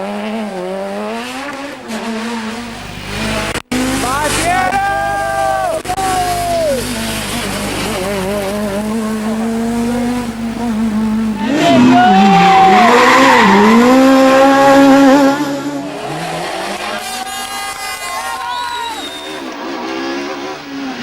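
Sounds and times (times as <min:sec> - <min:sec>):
rally car engine passing at speed: 0:00.0 - 0:21.0.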